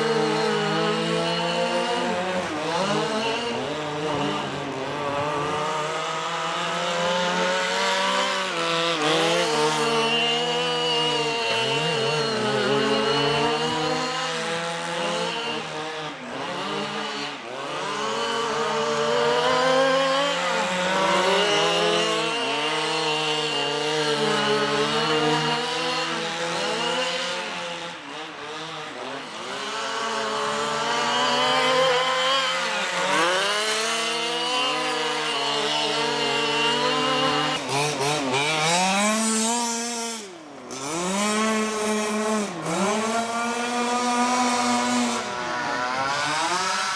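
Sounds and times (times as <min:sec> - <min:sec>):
small two-stroke engines revving: 0:00.0 - 0:46.9.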